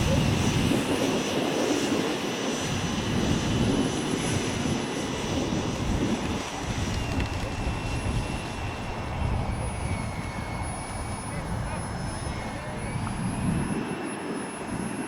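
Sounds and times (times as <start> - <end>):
model jet engine whining: 0.0 - 15.0
wind buffeting microphone: 0.0 - 15.0.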